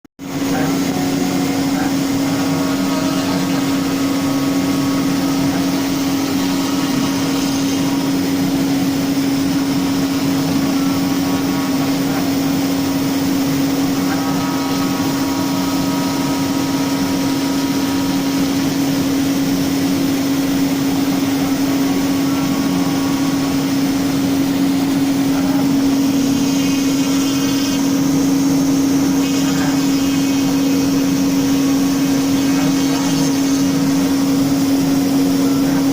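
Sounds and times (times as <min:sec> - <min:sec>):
router spindle humming: 0:00.2 - 0:35.9.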